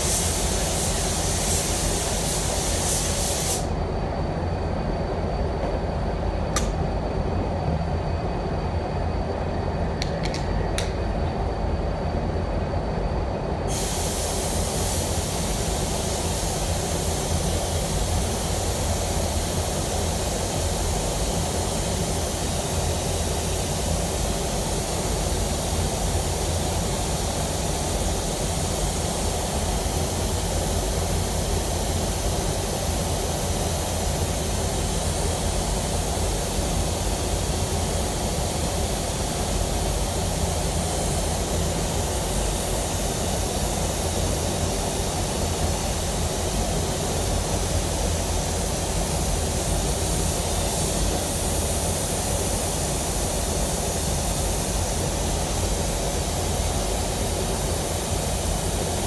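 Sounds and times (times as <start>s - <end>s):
spray gun hissing: 0.0s - 3.8s, 13.7s - 59.0s
paint booth air rumble: 0.0s - 59.0s.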